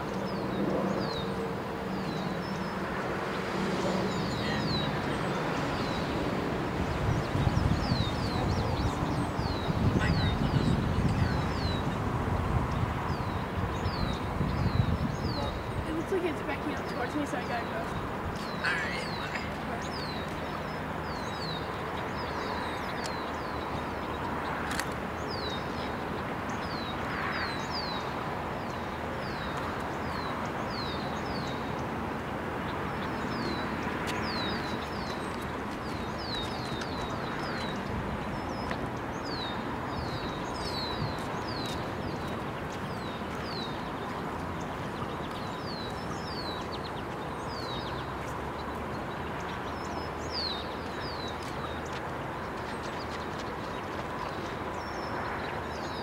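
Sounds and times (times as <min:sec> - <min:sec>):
birds chirping: 0:00.0 - 0:31.9, 0:32.6 - 0:56.0.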